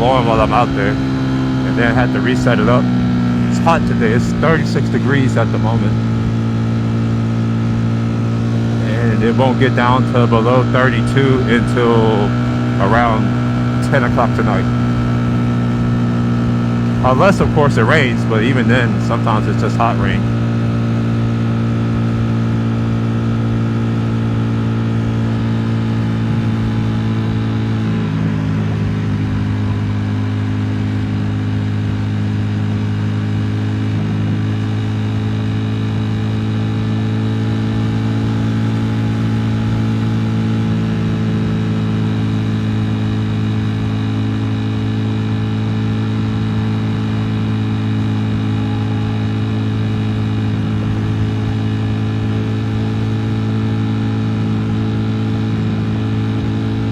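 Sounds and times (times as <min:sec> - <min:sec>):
motorcycle engine running steadily: 0:00.0 - 0:56.9.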